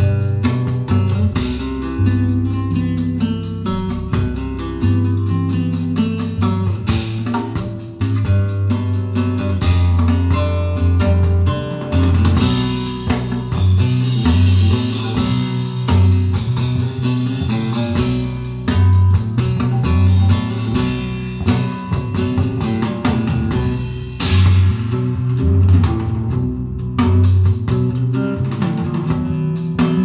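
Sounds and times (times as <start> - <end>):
guitar music with heavy bass: 0.0 - 30.0.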